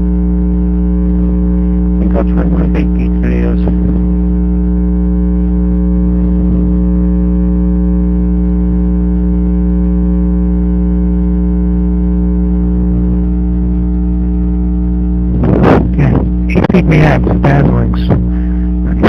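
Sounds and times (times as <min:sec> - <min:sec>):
electrical hum and buzz: 0:00.0 - 0:19.0.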